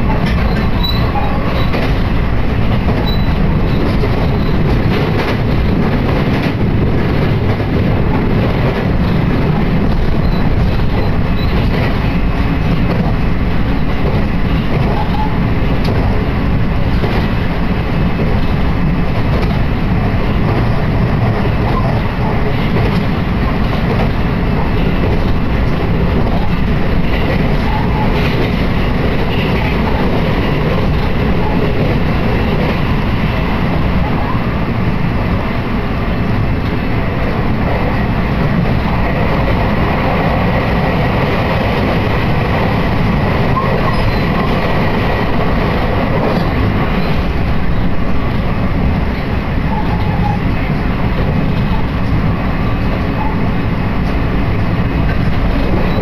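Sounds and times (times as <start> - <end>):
train rumble from inside car: 0.0 - 56.0.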